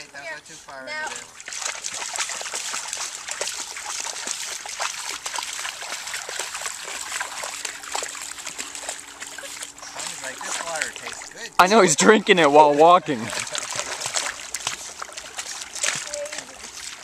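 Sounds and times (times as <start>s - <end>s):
dogs splashing in shallow water: 0.6s - 17.0s.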